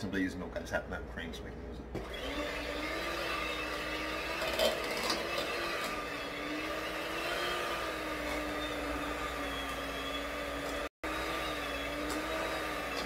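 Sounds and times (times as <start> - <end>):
electric mixer motor whine: 2.0 - 13.0.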